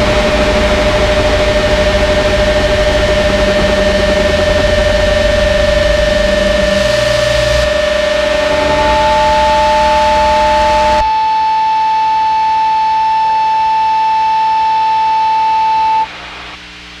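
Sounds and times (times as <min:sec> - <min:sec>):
distorted noise: 0:00.0 - 0:17.0
faint hum: 0:00.0 - 0:17.0
high feedback whine: 0:00.0 - 0:17.0.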